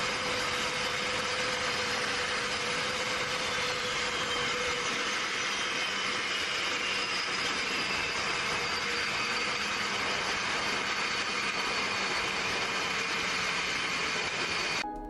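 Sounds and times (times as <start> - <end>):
fighter jet engines running: 0.0 - 14.8.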